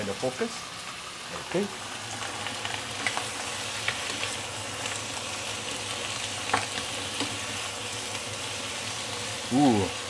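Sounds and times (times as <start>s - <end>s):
chicken frying sizzle: 0.0s - 10.0s.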